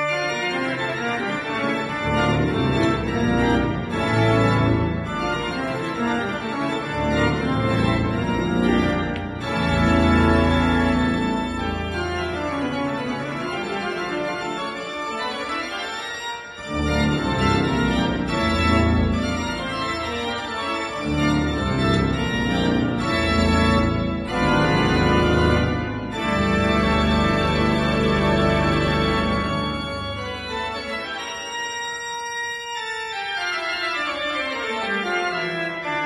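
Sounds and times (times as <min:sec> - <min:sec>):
pipe organ chords: 0:00.0 - 0:36.0.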